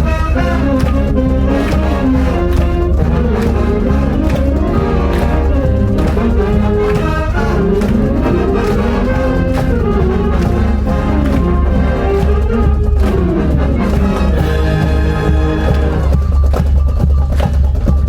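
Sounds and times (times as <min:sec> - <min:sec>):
brass melody: 0:00.0 - 0:16.8
drum beat: 0:00.0 - 0:18.0.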